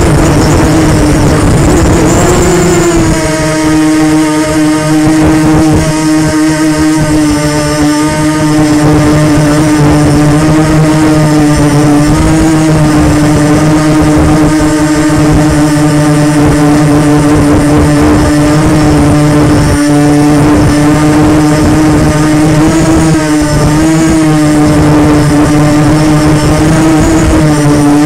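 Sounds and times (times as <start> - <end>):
drone propellers buzzing: 0.0 - 28.0.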